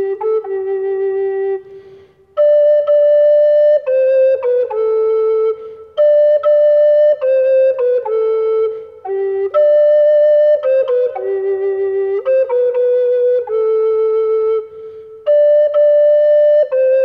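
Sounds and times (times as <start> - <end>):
recorder solo melody: 0.0 - 14.7.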